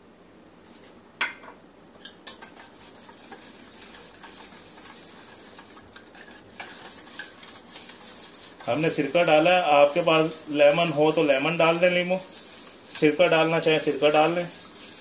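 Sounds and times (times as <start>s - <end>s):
whisk rattling in steel bowl: 2.2s - 15.0s.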